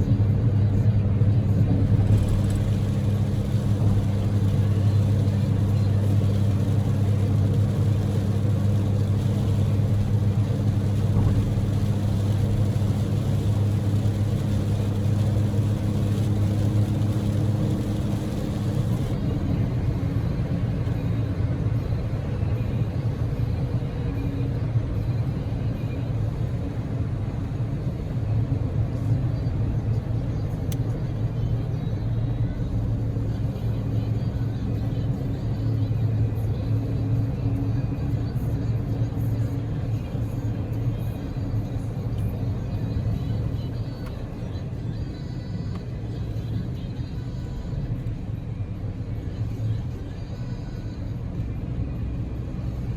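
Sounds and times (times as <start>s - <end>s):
car engine and road noise hum: 0.0s - 52.9s.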